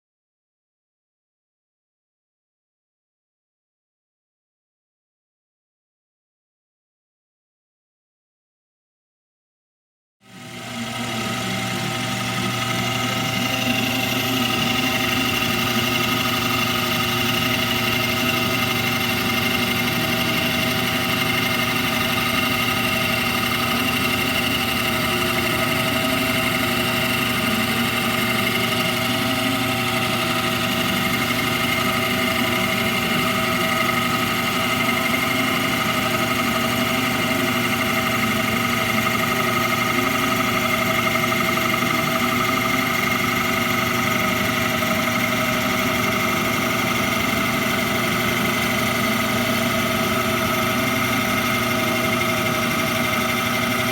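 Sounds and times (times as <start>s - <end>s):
metal lathe humming and whining: 10.3s - 53.9s.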